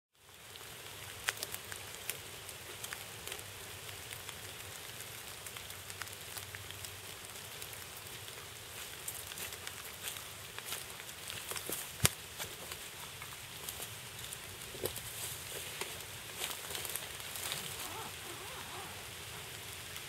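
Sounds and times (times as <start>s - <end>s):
light rain on grass: 0.2s - 20.0s.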